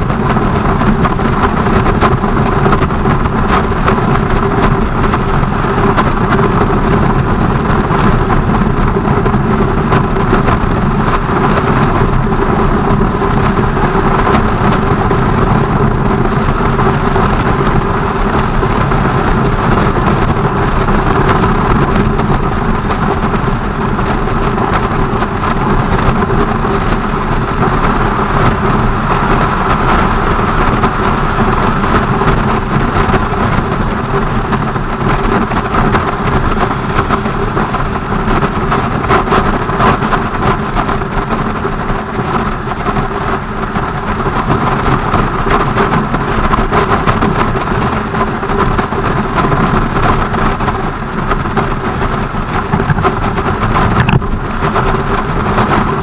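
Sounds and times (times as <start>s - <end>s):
constant noisy hiss: 0.0s - 56.0s
motorcycle engine running: 0.0s - 56.0s.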